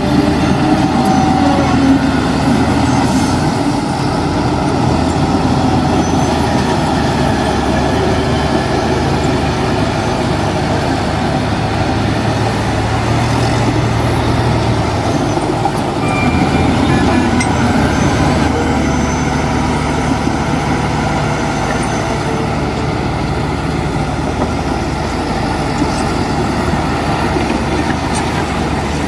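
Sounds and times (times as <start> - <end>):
deeper engine note: 0.0 - 29.0
earthmoving machinery engine drone: 0.0 - 29.0.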